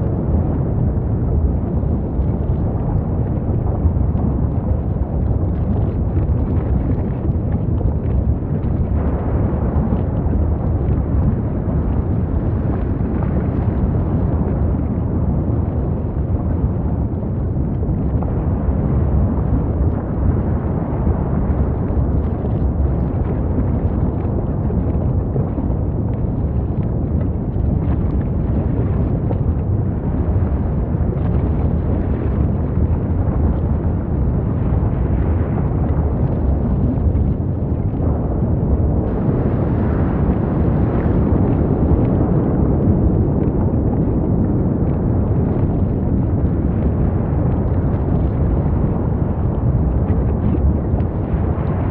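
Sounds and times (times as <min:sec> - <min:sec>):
volcano deep rumble: 0:00.0 - 0:51.9.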